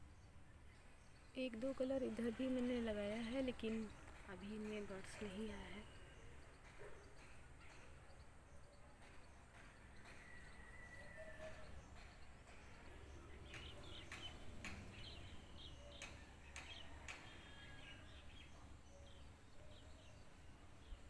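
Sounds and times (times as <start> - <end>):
distant birds chirping: 0.0 - 21.0.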